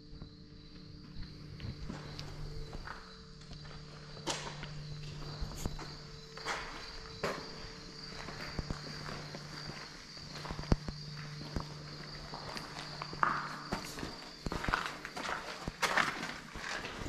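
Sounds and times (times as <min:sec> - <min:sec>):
insect trill: 0:00.0 - 0:17.0
footsteps scuffing on concrete: 0:00.2 - 0:17.0.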